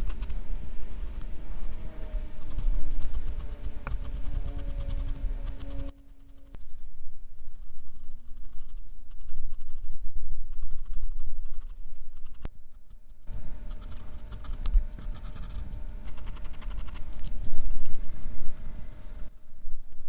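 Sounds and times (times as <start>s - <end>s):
pencil scratching on paper: 0.0s - 6.8s, 7.4s - 17.0s.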